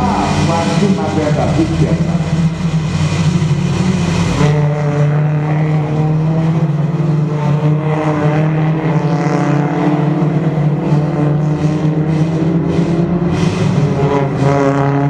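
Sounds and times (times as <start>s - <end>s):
race car engines running hard: 0.0s - 15.0s.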